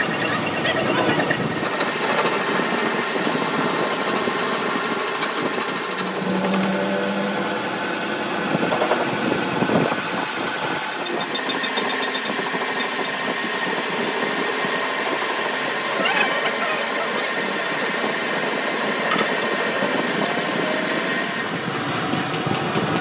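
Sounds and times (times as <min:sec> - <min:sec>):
metal lathe cutting steel: 0:00.0 - 0:22.5.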